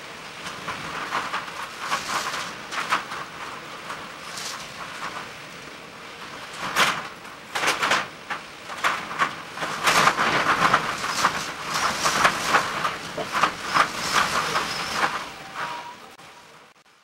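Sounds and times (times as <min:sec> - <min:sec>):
gusting wind: 0:00.0 - 0:16.8
driving rain: 0:00.0 - 0:17.0.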